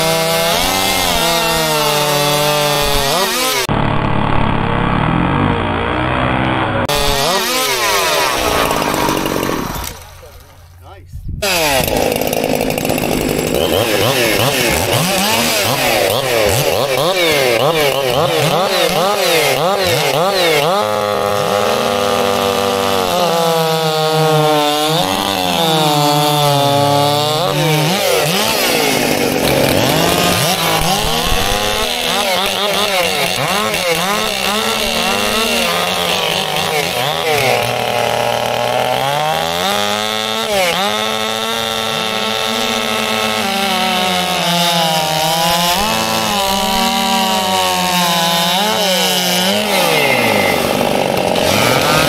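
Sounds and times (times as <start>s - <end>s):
chainsaws cutting timber: 0.0s - 52.0s.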